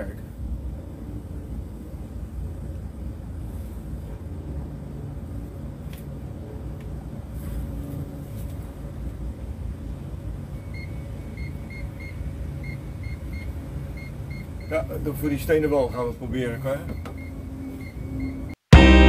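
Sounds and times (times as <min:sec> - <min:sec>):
boat engine low rumble: 0:00.0 - 0:18.5.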